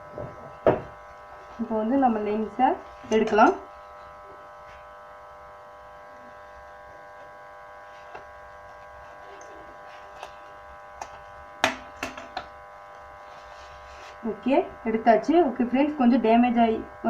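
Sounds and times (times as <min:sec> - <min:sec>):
steady electrical buzz: 0:00.0 - 0:17.0.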